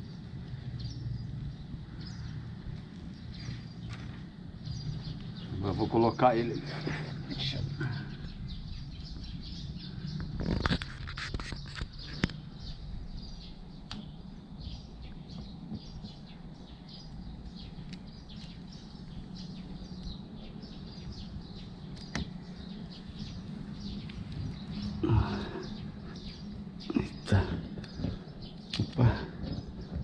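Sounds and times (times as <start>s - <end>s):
steady low hum: 0.0s - 11.1s, 11.8s - 30.0s
small birds chirping: 0.0s - 30.0s.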